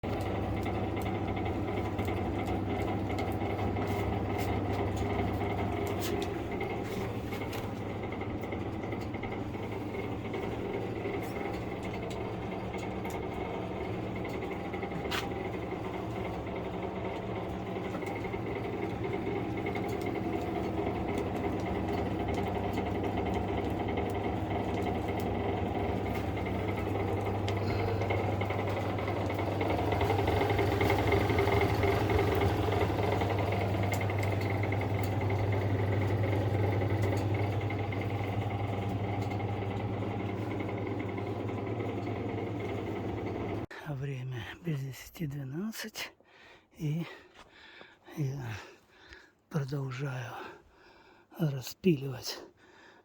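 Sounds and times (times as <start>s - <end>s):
mechanical hum with low drone: 0.0s - 46.0s.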